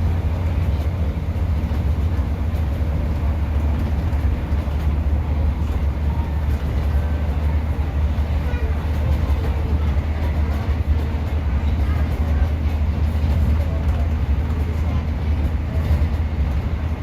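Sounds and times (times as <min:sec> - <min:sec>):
diesel train engine drone: 0:00.0 - 0:17.0.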